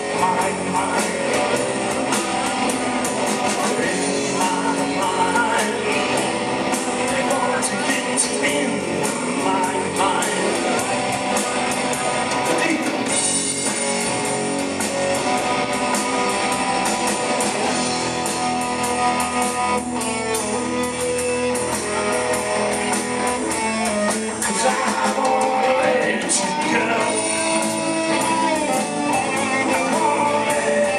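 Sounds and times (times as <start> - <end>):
rock band playing instrumental: 0.0 - 30.9.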